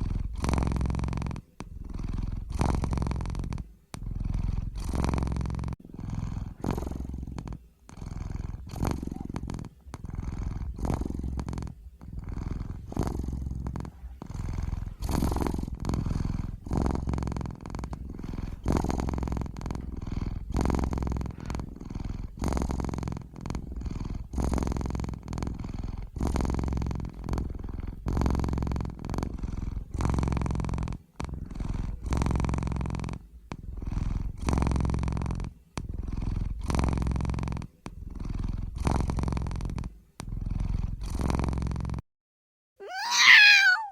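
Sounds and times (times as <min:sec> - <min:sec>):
cat purring: 0:00.0 - 0:42.0, 0:42.8 - 0:43.9.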